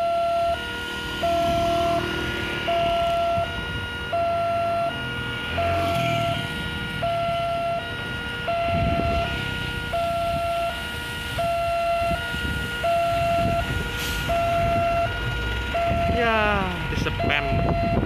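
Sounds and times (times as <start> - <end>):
level crossing two-tone alarm: 0.0 - 18.0
road traffic rumbling: 0.0 - 18.0.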